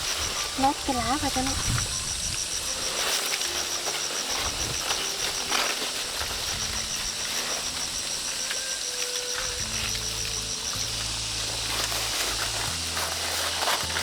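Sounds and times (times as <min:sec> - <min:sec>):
insect chirping: 0:00.0 - 0:14.0
rustling of leaves and fruit: 0:00.0 - 0:14.0.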